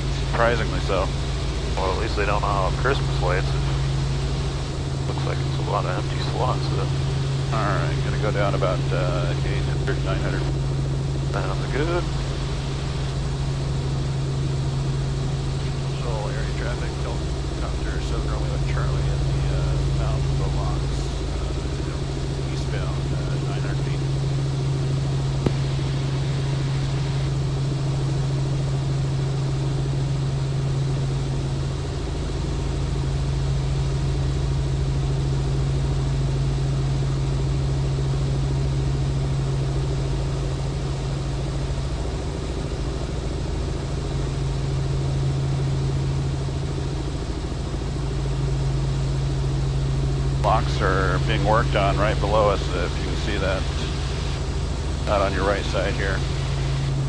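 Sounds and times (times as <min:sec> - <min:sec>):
helicopter engine and rotors droning: 0:00.0 - 0:57.0.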